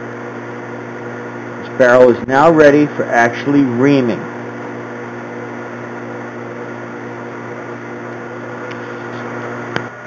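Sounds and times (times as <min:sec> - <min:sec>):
lathe motor humming: 0:00.0 - 0:10.0.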